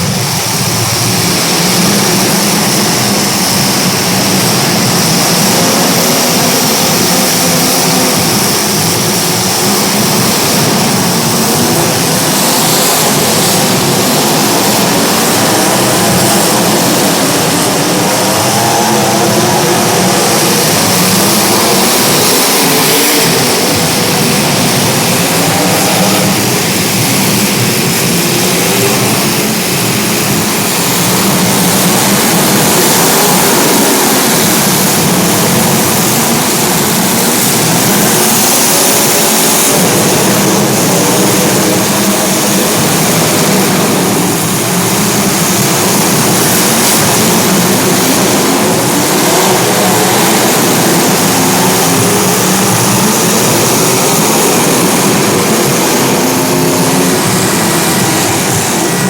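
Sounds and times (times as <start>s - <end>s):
small racing engines: 0.0s - 59.0s.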